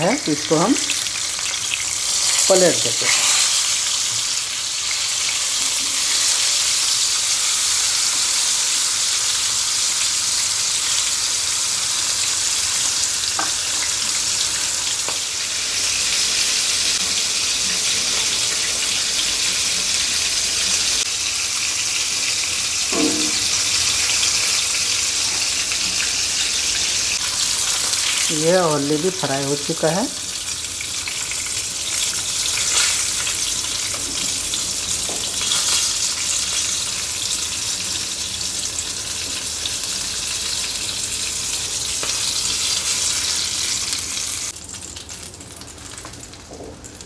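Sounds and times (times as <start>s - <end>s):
fish sizzling in oil: 0.0s - 47.0s.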